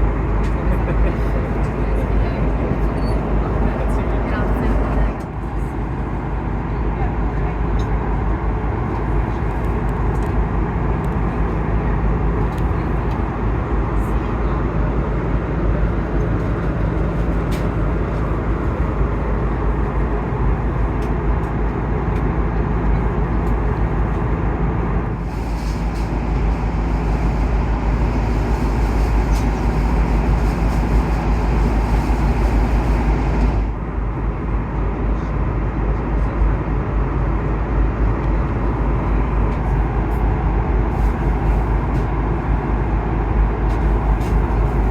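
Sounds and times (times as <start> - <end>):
airliner cabin roar: 0.0 - 44.9.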